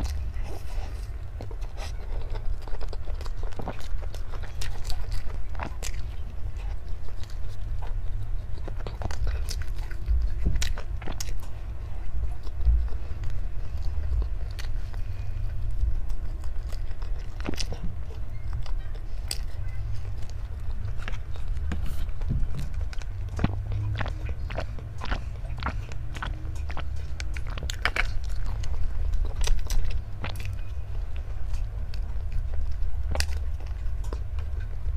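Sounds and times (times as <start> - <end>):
low rumble: 0.0 - 34.9
person chewing crunchy food: 0.0 - 34.9.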